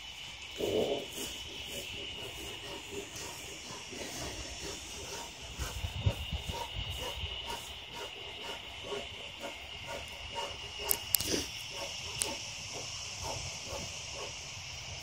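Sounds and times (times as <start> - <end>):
insects chorus: 0.0 - 15.0
rhythmic scraping: 0.6 - 14.3.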